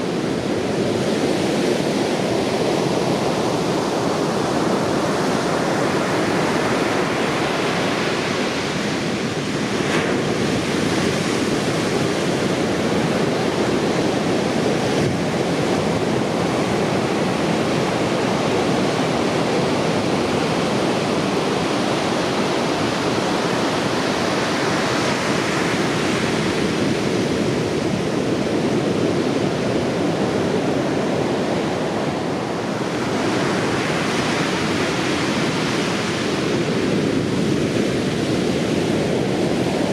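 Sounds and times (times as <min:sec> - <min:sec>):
heavy surf breaking on beach: 0:00.0 - 0:39.9.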